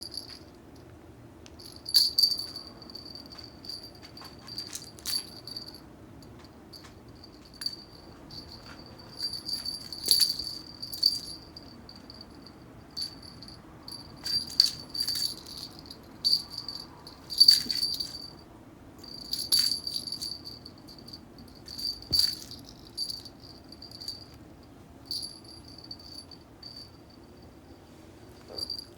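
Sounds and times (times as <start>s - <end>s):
bell toy jingling: 1.6s - 5.8s, 6.7s - 18.4s, 19.0s - 24.4s, 25.1s - 27.6s, 28.5s - 28.9s.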